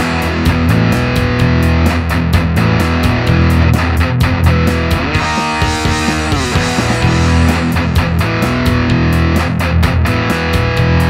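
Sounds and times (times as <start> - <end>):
electric guitar metal riff: 0.0 - 11.0.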